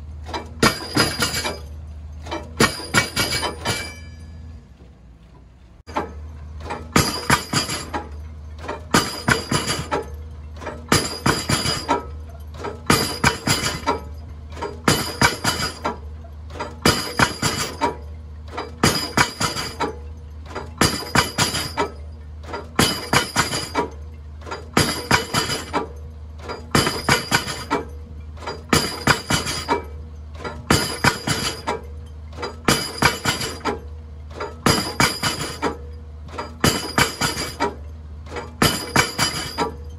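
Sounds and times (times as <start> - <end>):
pile hammer clanking metal impacts: 0.2 - 4.6, 5.9 - 39.9.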